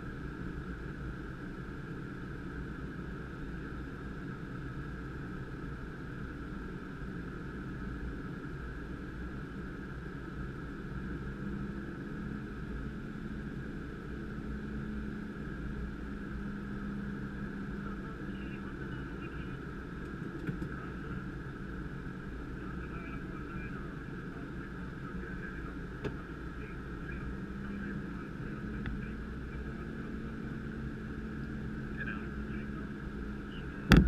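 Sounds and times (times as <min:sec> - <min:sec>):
airflow rushing in cockpit: 0:00.0 - 0:34.0
jet engines humming: 0:00.0 - 0:34.0.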